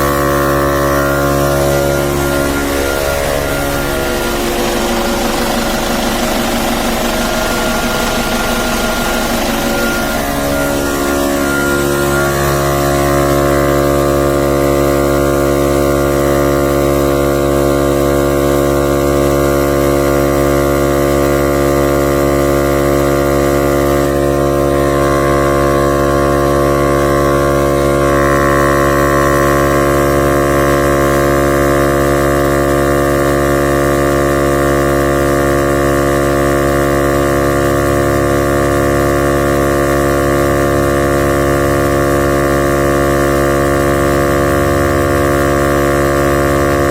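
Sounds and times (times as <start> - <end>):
tire inflator compressor running: 0.0 - 46.9.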